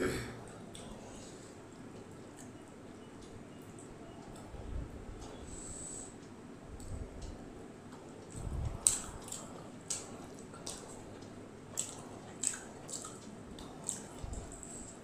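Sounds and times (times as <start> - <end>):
wet chewing and mouth smacking: 0.5 - 4.5, 6.2 - 15.0.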